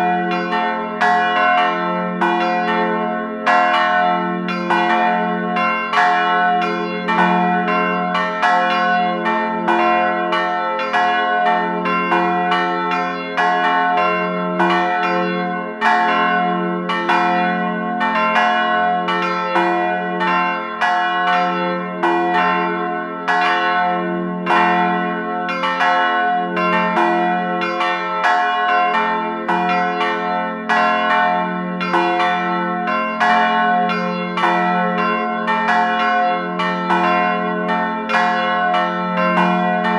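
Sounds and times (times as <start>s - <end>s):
bells ringing in a peal: 0.0s - 39.9s.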